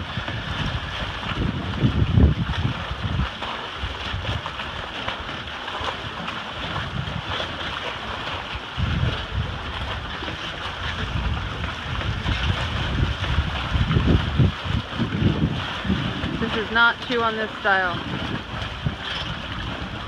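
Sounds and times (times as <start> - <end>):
choppy water sloshing: 0.0 - 20.0
wind buffeting microphone: 0.0 - 20.0.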